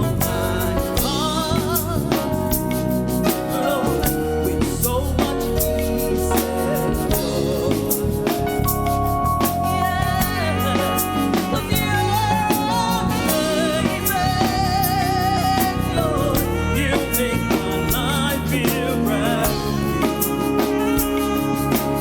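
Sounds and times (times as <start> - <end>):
drum kit beat: 0.0 - 22.0
singer holding long notes: 0.0 - 22.0
sustained keyboard chords: 0.0 - 22.0.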